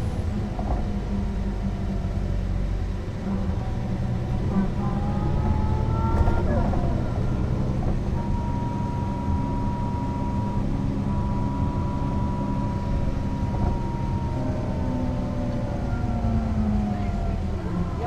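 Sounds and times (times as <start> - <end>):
bus engine droning: 0.0 - 18.0.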